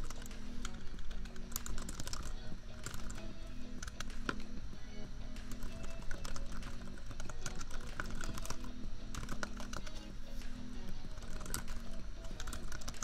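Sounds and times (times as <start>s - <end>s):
computer keyboard typing: 0.0s - 4.6s, 5.3s - 13.0s
laptop fan hum: 0.0s - 13.0s
lofi background music: 0.0s - 13.0s.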